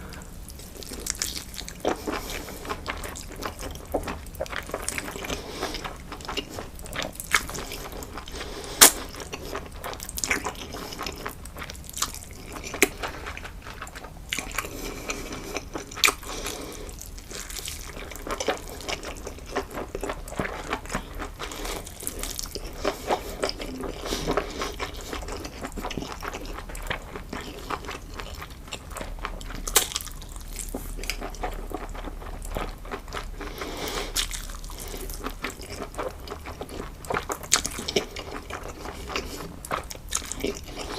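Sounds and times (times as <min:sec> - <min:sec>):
crunchy bites and chewing: 0:00.2 - 0:40.9.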